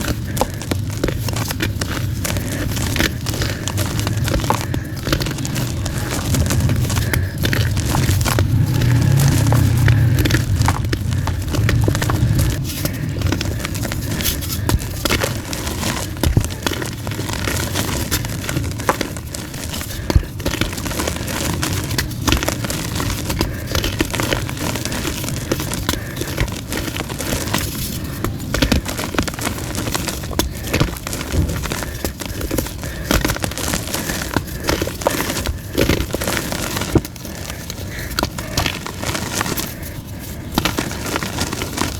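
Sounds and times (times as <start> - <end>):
chalk crunching and crackling: 0.0 - 41.9.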